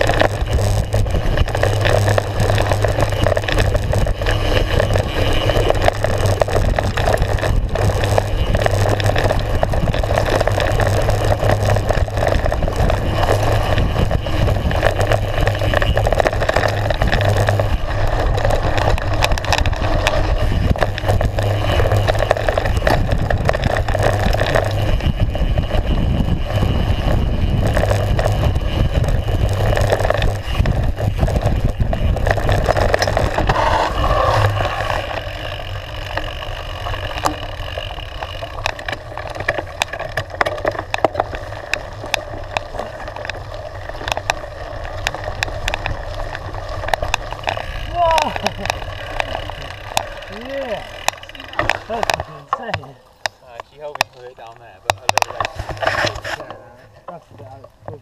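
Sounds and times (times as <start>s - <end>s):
bike rattling: 0.0s - 58.0s
steady low rumble: 0.0s - 58.0s
tyres crunching over loose stones: 0.0s - 58.0s.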